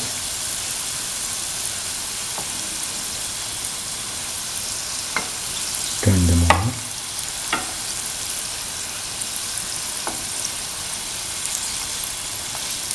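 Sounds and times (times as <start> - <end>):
dough balls frying in oil: 0.0 - 12.9.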